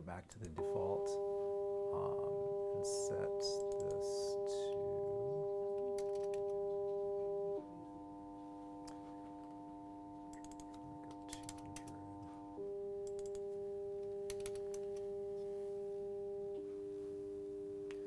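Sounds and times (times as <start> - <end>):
electronic synthesized tones: 0.6 - 16.6.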